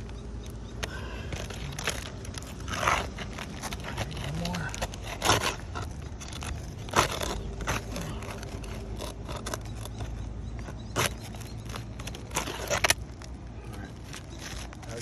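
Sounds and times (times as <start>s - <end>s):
hand tool scraping roof shingles: 1.3s - 15.0s.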